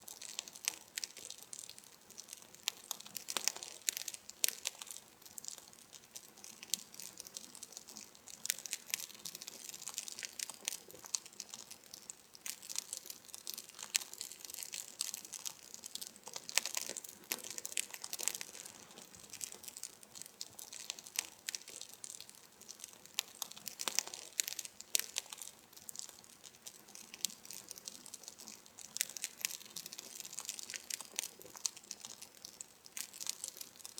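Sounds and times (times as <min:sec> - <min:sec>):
campfire wood crackling and popping: 0:00.0 - 0:33.9.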